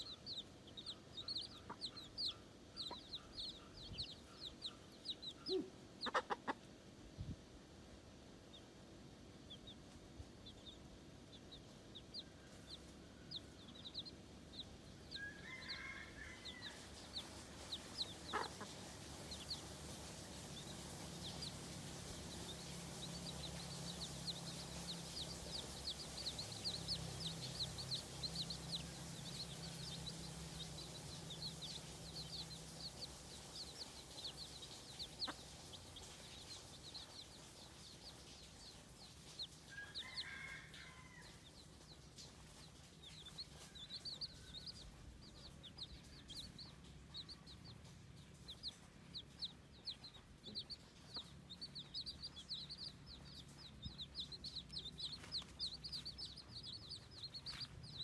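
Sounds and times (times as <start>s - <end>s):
baby chicks peeping: 0.0s - 58.0s.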